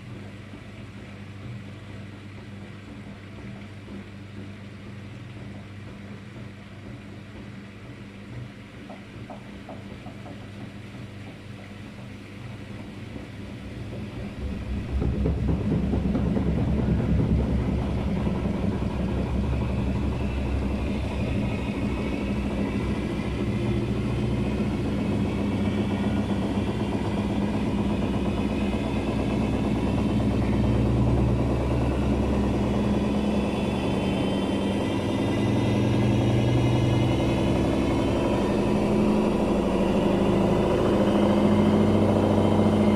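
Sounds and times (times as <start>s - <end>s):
faint motor whine: 0.0s - 42.9s
washing machine spinning: 0.0s - 42.9s.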